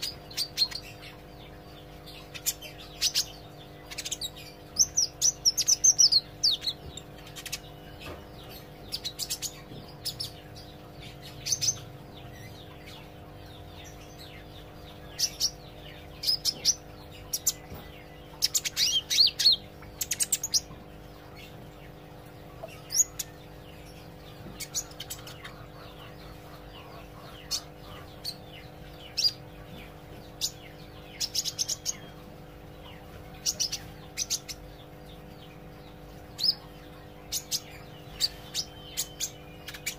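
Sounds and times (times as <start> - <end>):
bird chirping and twittering: 0.0 - 39.9
steady low hum: 0.0 - 39.9.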